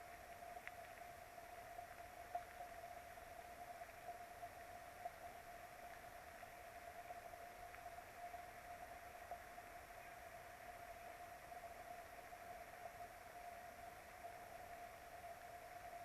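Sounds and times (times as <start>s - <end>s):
thin constant tone: 0.0s - 16.0s.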